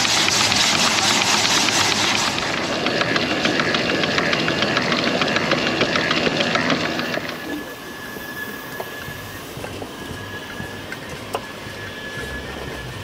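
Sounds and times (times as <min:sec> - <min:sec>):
steam locomotive hiss: 0:00.0 - 0:05.7, 0:06.5 - 0:13.0
train wheels clattering over rails: 0:00.0 - 0:13.0.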